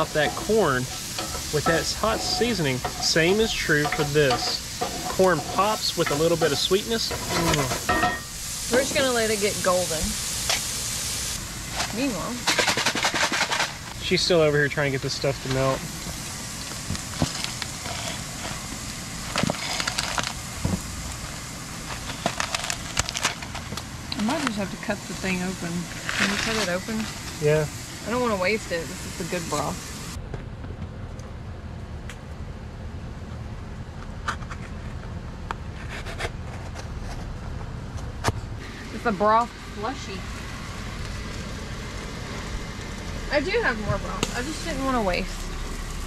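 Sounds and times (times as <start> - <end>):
corn sizzling in a pan: 0.0 - 30.2, 38.6 - 46.0.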